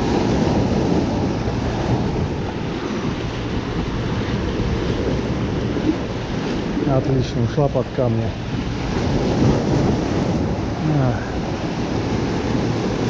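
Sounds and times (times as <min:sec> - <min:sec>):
surf washing against rocks: 0:00.0 - 0:13.0
wind buffeting microphone: 0:00.0 - 0:13.0.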